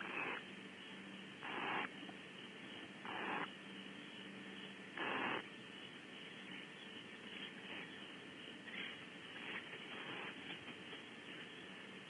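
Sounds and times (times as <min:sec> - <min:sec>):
faint steady hum: 0:00.0 - 0:12.0
owl nestlings hissing: 0:00.0 - 0:12.0.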